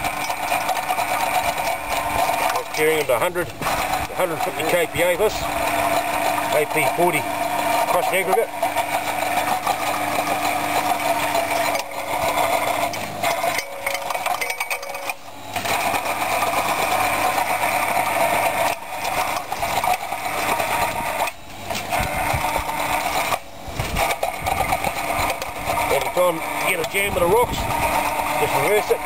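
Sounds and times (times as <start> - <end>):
rotary hoe churning rock: 0.0 - 29.0.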